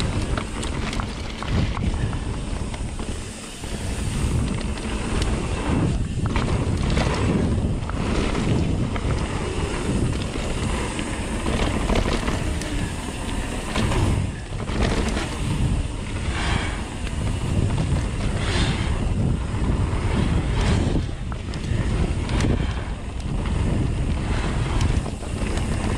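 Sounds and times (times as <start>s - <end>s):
bike knocking and rattling: 0.0s - 25.9s
tyres rumbling on dirt trail: 0.0s - 25.9s
wind buffeting microphone: 0.0s - 25.9s.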